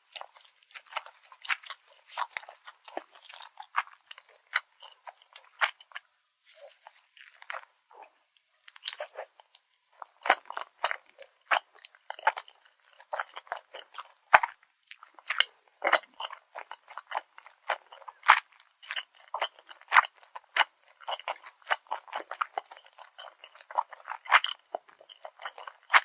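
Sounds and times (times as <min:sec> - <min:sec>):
close-miked chewing: 0:00.0 - 0:26.0.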